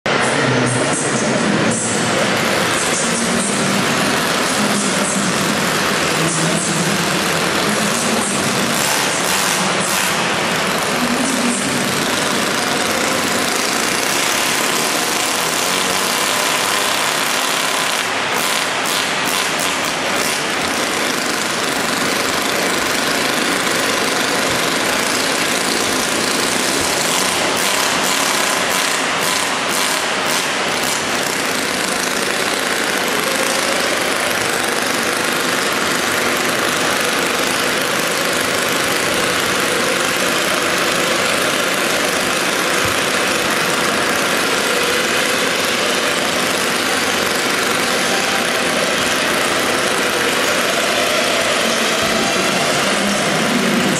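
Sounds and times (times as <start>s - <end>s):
model engine running steadily: 0.1s - 53.9s.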